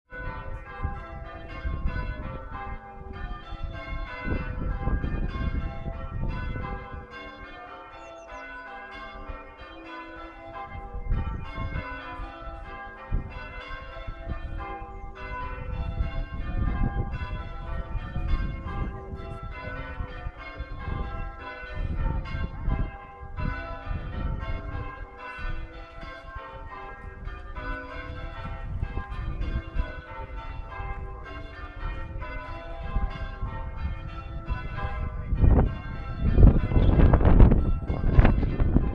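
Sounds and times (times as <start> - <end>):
church bells ringing: 0.1 - 38.9.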